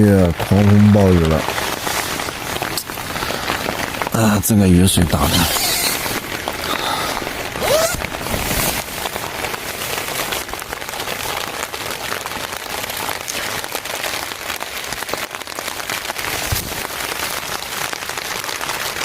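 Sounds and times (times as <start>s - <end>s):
heavy rain pattering: 0.0s - 19.0s.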